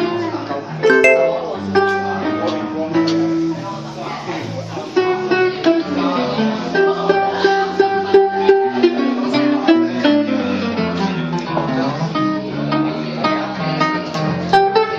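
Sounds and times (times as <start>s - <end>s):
plucked jazz guitar: 0.8s - 3.5s, 5.0s - 14.9s.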